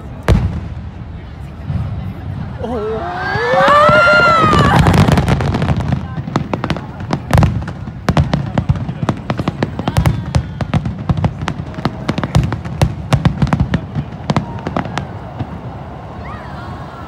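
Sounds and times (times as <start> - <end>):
fireworks bursting: 0.0 - 2.6, 3.4 - 16.2.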